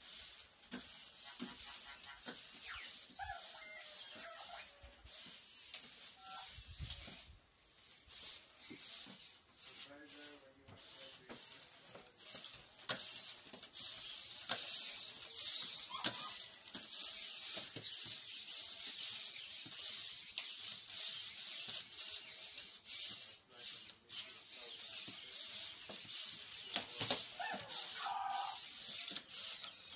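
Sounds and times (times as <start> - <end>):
toy robot motors whirring: 0.0 - 29.9.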